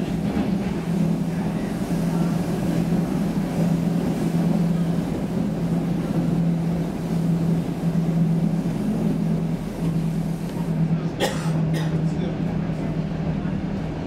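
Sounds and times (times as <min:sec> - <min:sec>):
subway car wheels rumbling: 0:00.0 - 0:14.0.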